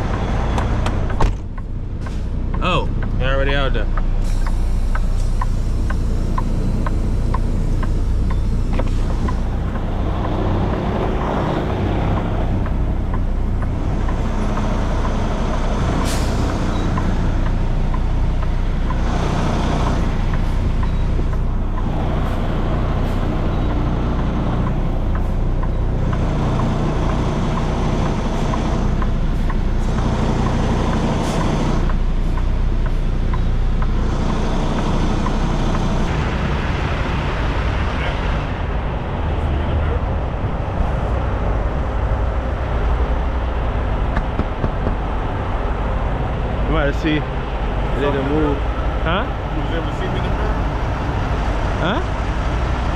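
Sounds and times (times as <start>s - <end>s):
road and wind noise: 0.0s - 52.9s
truck engine drone: 0.0s - 52.9s.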